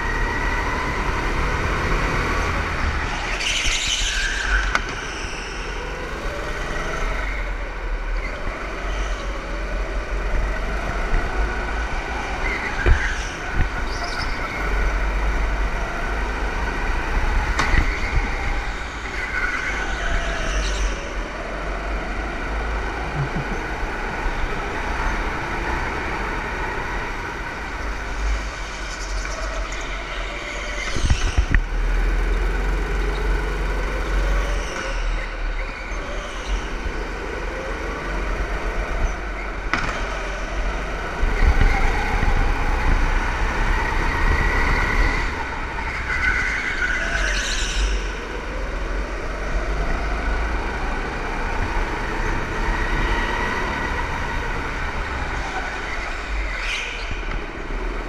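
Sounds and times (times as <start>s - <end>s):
go-kart engines revving: 0.0s - 58.0s.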